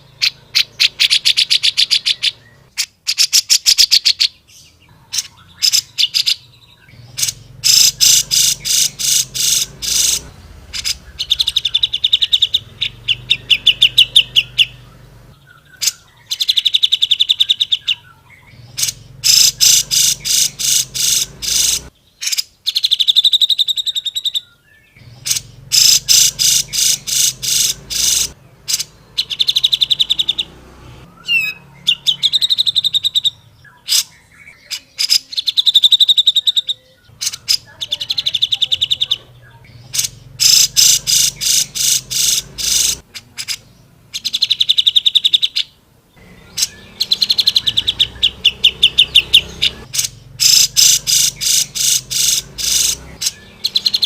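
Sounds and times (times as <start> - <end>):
bird singing rapid trills: 0.0 - 54.0.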